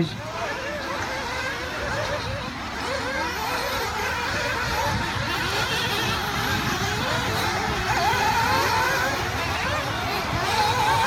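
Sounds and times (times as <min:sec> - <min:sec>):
rc car engines whining: 0:00.0 - 0:11.0.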